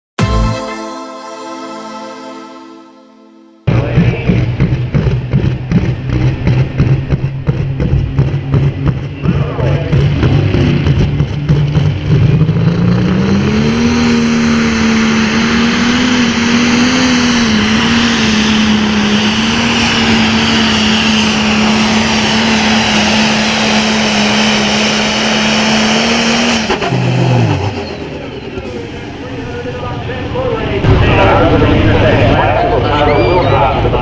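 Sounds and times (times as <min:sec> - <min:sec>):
tractor diesel engine at full throttle: 0:03.7 - 0:34.0.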